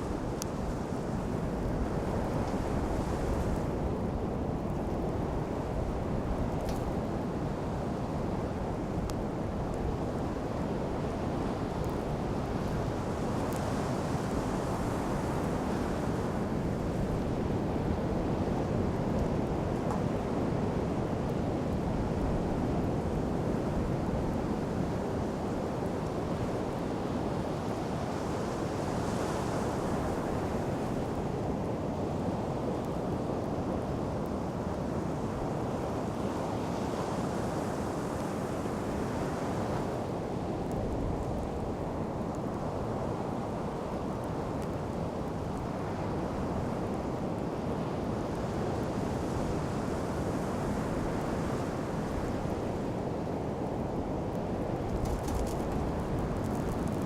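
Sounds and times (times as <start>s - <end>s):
surf washing on beach: 0.0s - 57.0s
wind rumbling on microphone: 0.0s - 57.0s.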